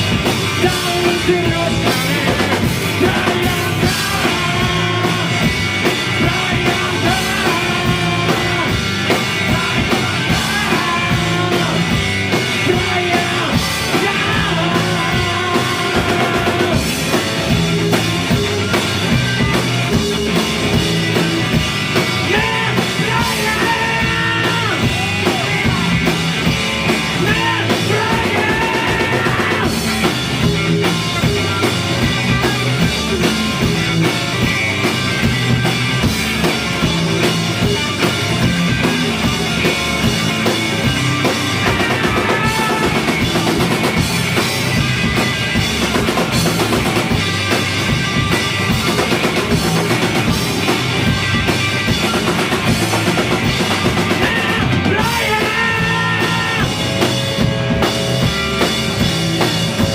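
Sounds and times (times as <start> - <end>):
drum kit: 0.0 - 59.9
rock band playing live: 0.0 - 59.9.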